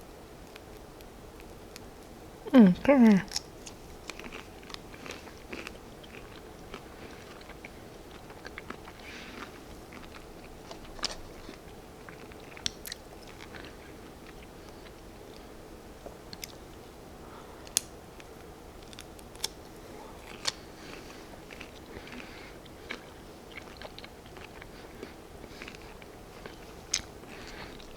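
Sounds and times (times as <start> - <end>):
person chewing crunchy food: 3.3 - 15.6, 16.2 - 16.8, 17.6 - 27.9.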